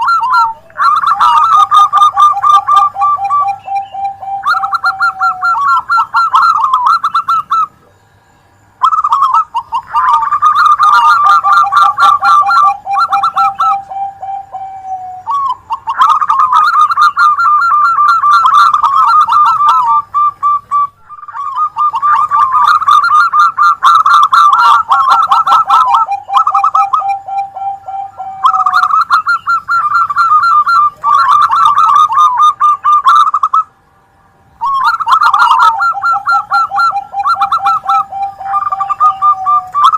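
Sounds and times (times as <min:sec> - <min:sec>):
doves cooing: 0:00.0 - 0:33.8, 0:34.6 - 0:39.9.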